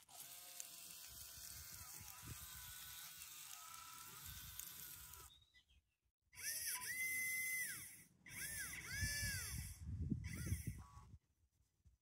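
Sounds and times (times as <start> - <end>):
electric motors whining: 0.0 - 5.3, 6.4 - 11.2.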